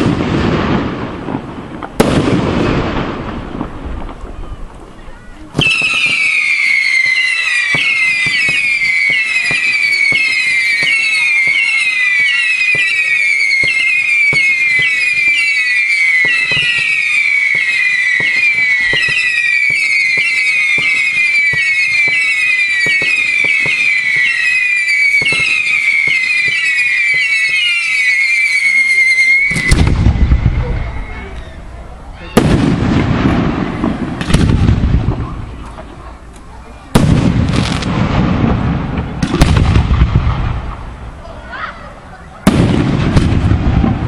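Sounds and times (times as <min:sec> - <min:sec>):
firework bangs and crackles: 0:00.0 - 0:44.0
whistling fireworks: 0:00.0 - 0:44.0.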